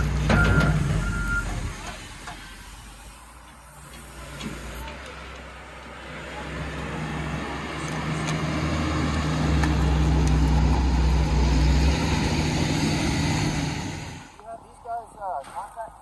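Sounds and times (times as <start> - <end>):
diesel engine running under load: 0.0 - 14.6.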